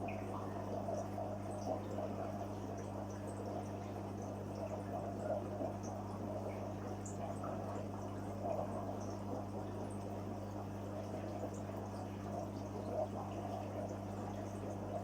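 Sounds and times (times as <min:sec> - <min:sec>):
low electric hum: 0:00.0 - 0:15.0
water trickling and dripping: 0:00.0 - 0:15.0.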